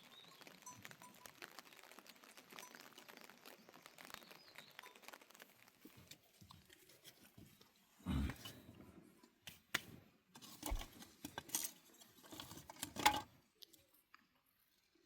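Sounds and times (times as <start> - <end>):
light raindrops pattering: 0.0 - 15.0.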